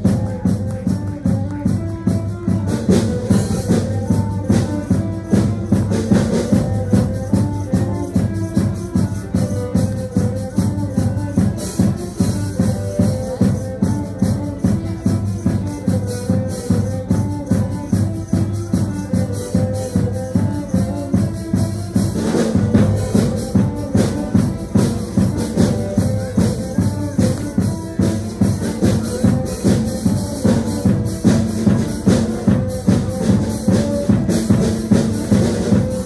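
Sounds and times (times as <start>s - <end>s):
instrumental music with steady beat: 0.0s - 36.0s.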